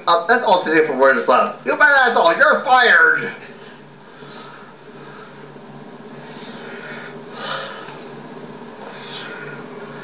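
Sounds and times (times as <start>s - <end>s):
low electrical hum and hiss: 0.0s - 10.0s.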